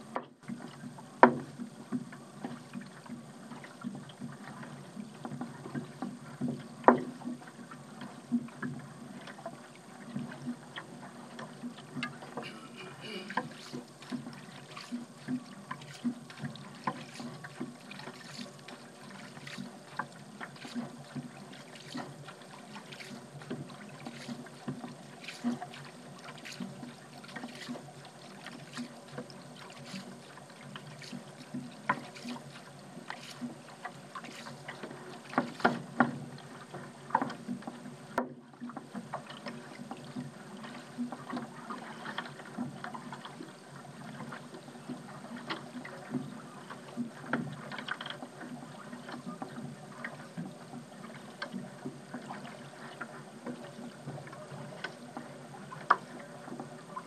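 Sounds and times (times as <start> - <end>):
moving water wash: 0.0 - 57.0
paddle splashing in water: 0.0 - 57.0
water dripping off paddle: 0.2 - 57.0.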